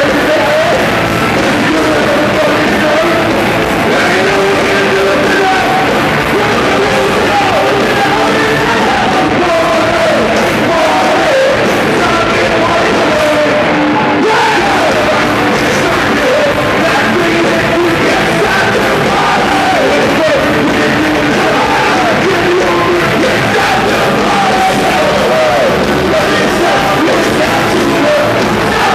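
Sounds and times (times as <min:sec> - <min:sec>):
live rock band: 0:00.0 - 0:28.9.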